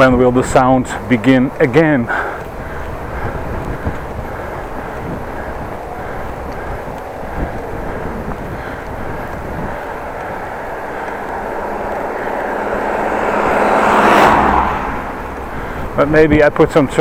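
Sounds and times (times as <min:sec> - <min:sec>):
motor vehicle engine hum: 0:00.0 - 0:17.0
wind and road noise from bicycle: 0:00.0 - 0:17.0.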